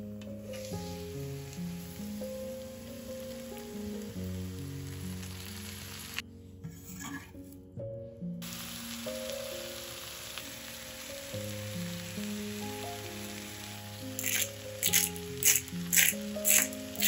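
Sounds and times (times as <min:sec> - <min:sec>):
soft background music: 0:00.0 - 0:17.0
food sizzling in frying pan: 0:00.3 - 0:06.2, 0:08.4 - 0:17.0.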